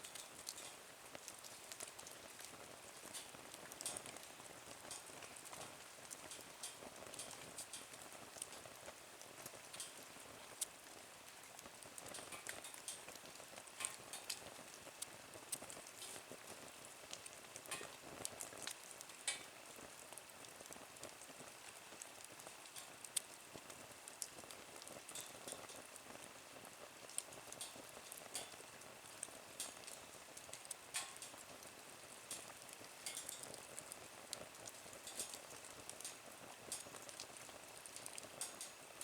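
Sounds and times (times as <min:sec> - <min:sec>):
faint fire hiss: 0:00.0 - 0:39.0
wood fire crackling: 0:00.0 - 0:39.0.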